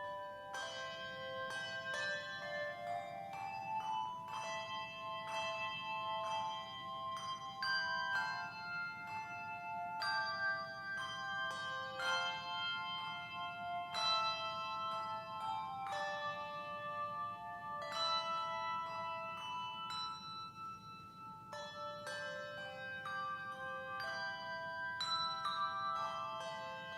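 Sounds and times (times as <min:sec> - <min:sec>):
handbell ensemble playing hymn: 0:00.0 - 0:26.9.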